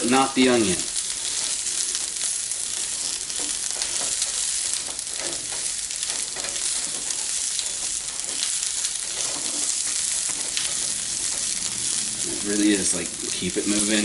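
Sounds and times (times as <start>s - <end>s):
onions sizzling in a frying pan: 0.0s - 14.0s
spatula scraping a pan: 1.0s - 12.3s.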